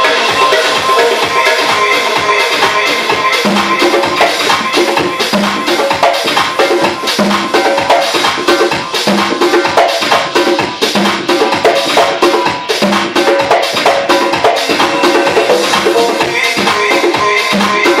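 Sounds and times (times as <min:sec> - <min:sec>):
dance music beat: 0:00.0 - 0:18.0
live percussion strikes: 0:00.0 - 0:18.0.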